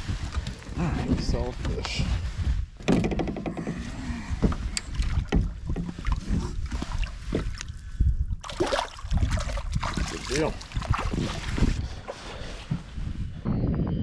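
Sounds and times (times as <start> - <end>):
water splashing against hull: 0.0 - 13.2
wind rumble on microphone: 0.0 - 14.0.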